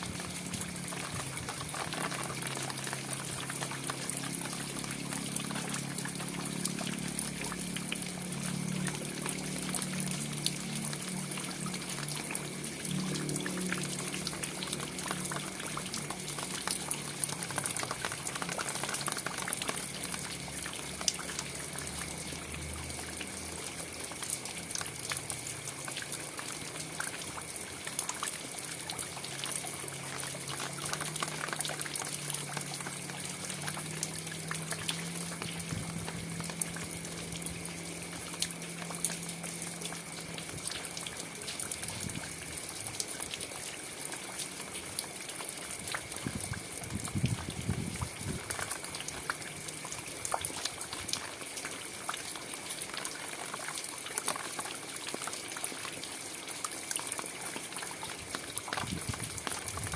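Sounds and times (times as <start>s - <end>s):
raindrops ticking: 0.0s - 59.9s
running water: 0.0s - 59.9s.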